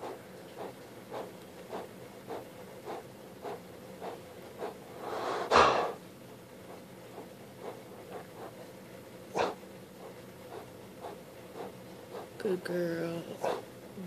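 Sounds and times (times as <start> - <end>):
dog breathing hard and fast: 0.0 - 12.4, 13.3 - 13.8.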